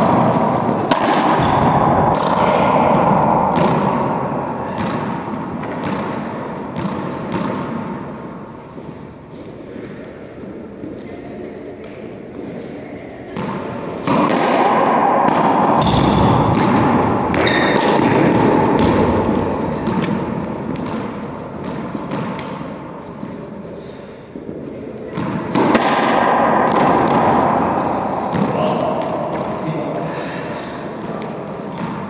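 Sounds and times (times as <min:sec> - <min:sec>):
racquetball hits echoing: 0:00.0 - 0:11.1, 0:11.8 - 0:32.0.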